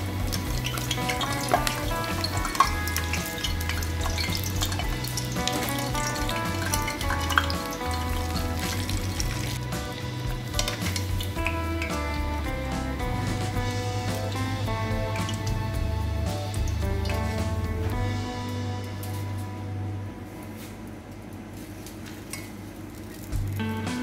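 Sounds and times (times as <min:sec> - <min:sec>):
oil sizzling and crackling: 0:00.0 - 0:19.8, 0:21.3 - 0:24.0
background music: 0:00.0 - 0:21.4, 0:23.3 - 0:24.0.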